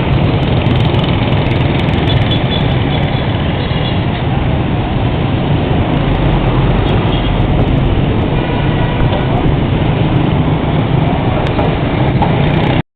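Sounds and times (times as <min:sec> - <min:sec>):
motorbike traffic rumble: 0:00.0 - 0:12.8
road noise: 0:00.0 - 0:12.8.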